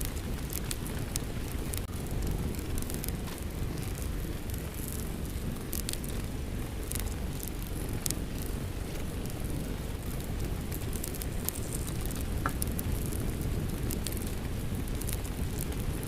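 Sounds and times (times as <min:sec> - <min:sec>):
falling rain: 0:00.0 - 0:16.0
fireplace fire crackling: 0:00.0 - 0:16.0.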